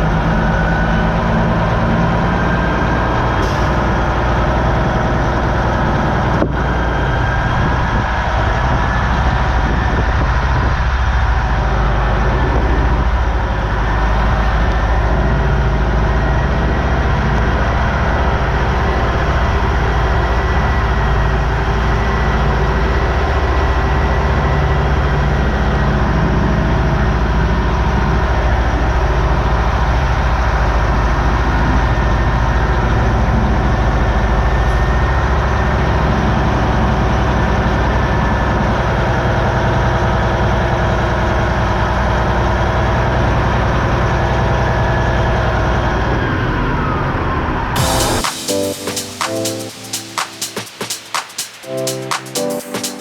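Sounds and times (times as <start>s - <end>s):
truck diesel engine running: 0.0s - 48.2s.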